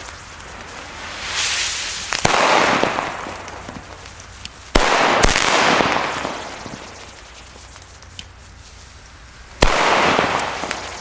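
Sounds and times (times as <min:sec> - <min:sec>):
firework bangs: 0:00.0 - 0:08.0, 0:09.4 - 0:11.0
fireworks hissing: 0:00.0 - 0:11.0.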